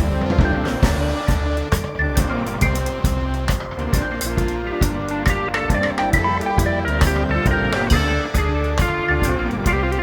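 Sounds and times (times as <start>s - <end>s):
guitar music: 0.0s - 10.0s
steady drum beat: 0.0s - 10.0s.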